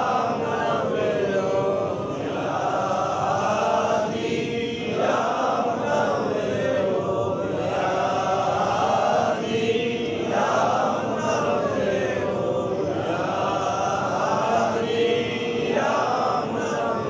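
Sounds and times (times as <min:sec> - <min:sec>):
voices chanting: 0:00.0 - 0:17.0.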